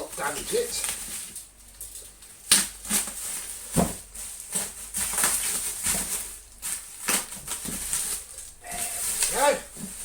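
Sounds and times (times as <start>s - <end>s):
bubble wrap crinkling and crackling: 0.0s - 10.0s.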